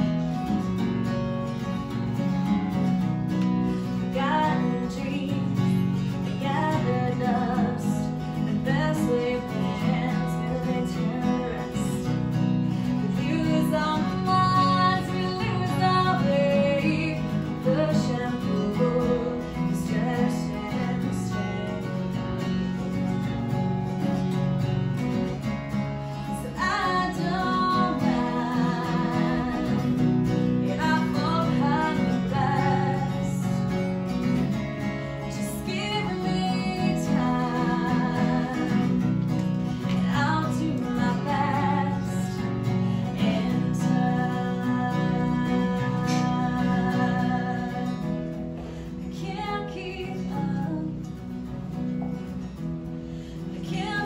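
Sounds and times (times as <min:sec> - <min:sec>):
acoustic guitar: 0:00.0 - 0:54.0
woman singing: 0:03.8 - 0:22.2, 0:26.1 - 0:34.4, 0:35.1 - 0:51.6, 0:53.4 - 0:54.0.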